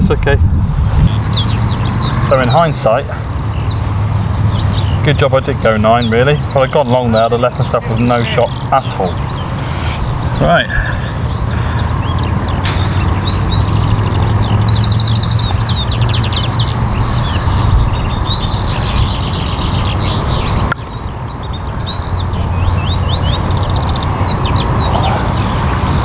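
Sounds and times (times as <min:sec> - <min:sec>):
small birds chirping and singing: 0:00.0 - 0:26.0
steady low rumble: 0:00.0 - 0:26.0.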